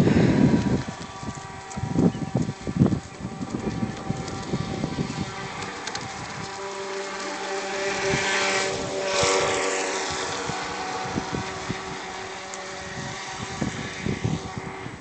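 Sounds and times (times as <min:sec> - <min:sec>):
boat hull spraying water: 0:00.0 - 0:15.0
electric motor whining: 0:00.0 - 0:15.0.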